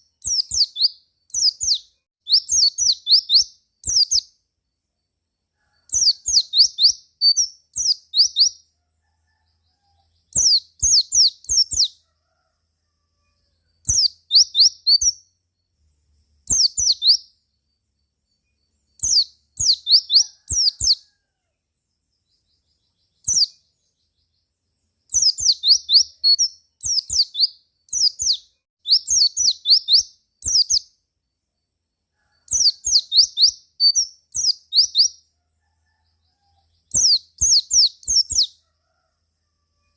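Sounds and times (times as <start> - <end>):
bird chirping: 0.0 - 12.1, 13.2 - 38.7.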